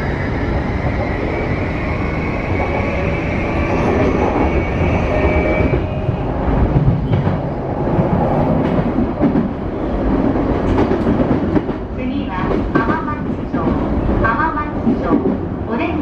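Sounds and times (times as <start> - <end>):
rail clicks: 2.4 - 16.0.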